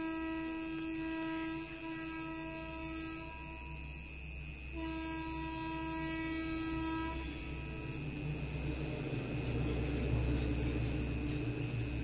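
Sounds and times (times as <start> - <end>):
electric train rumble and hiss: 0.0 - 12.0
steady high whine: 0.0 - 12.0.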